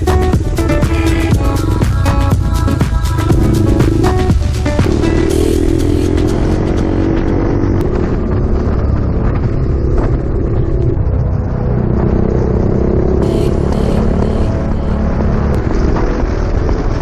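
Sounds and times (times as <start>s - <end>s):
motorcycle engine deep exhaust: 0.0s - 16.7s.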